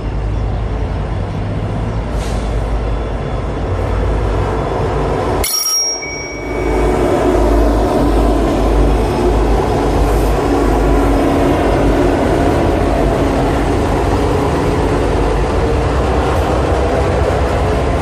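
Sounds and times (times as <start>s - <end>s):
deep train rumble: 0.0s - 18.0s
diesel locomotive engines: 0.0s - 18.0s.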